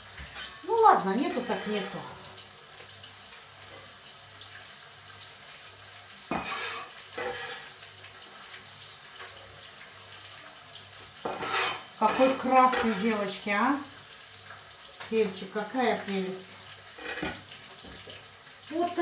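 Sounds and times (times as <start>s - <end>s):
kitchen tap running: 0.0s - 9.1s, 10.8s - 19.0s.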